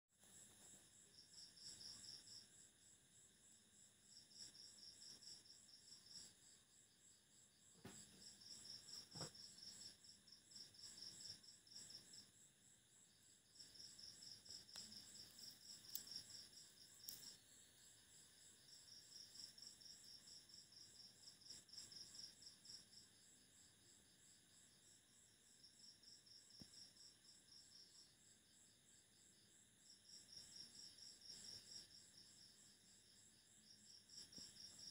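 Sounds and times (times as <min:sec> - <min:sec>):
insect chirping: 0:00.2 - 0:34.9.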